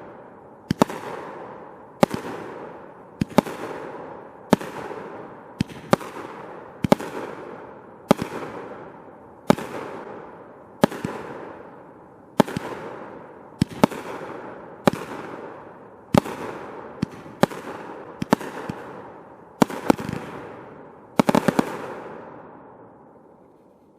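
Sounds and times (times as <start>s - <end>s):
fireworks bangs: 0.0s - 22.4s.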